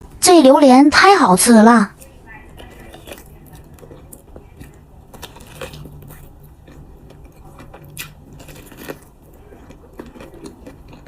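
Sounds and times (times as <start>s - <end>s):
wet chewing: 1.9s - 11.0s.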